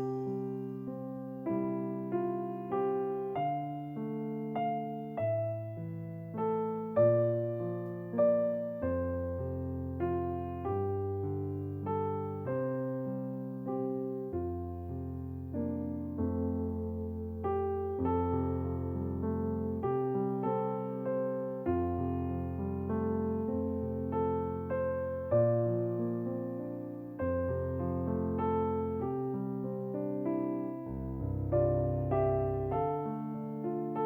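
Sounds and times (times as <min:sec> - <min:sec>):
slow gentle piano piece: 0:00.0 - 0:34.0.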